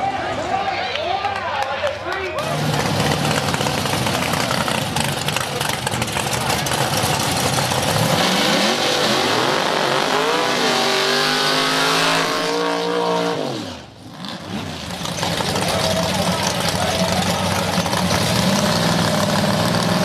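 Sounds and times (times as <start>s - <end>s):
car engine revving: 2.4s - 20.0s.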